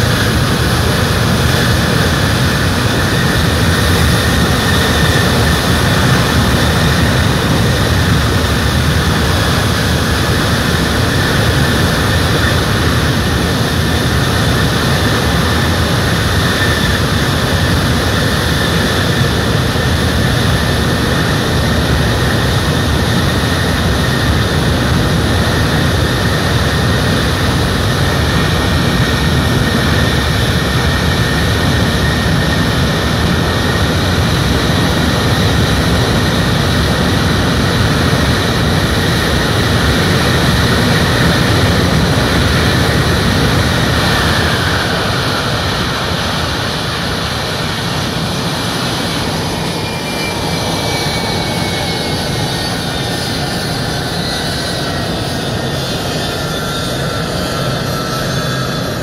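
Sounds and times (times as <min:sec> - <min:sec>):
high steady engine whine: 0:00.0 - 0:59.0
jet engines running: 0:00.0 - 0:59.0.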